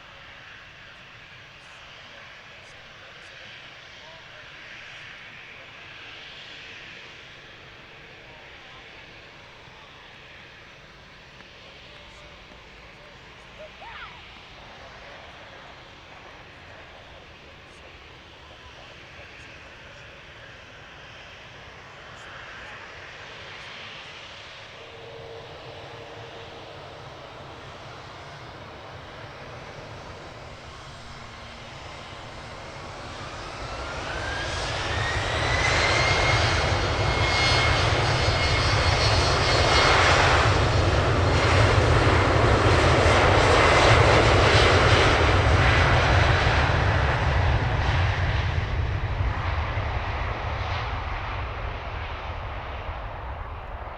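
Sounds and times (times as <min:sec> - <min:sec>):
jet engines spooling up: 0:04.6 - 0:53.9.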